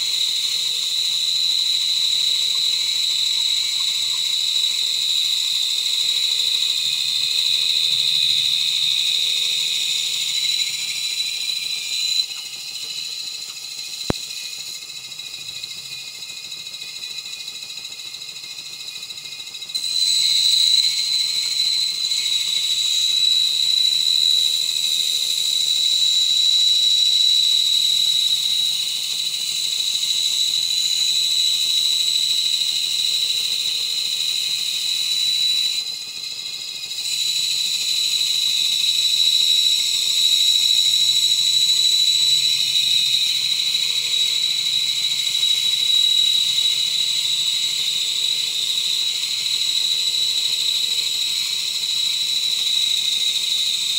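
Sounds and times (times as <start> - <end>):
bandsaw blade whining: 0.0 - 53.9.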